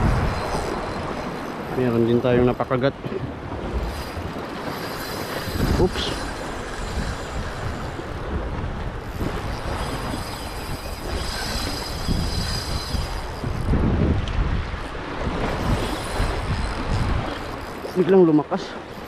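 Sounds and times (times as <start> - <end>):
sea washing: 0.0 - 19.0
wind buffeting microphone: 0.0 - 19.0.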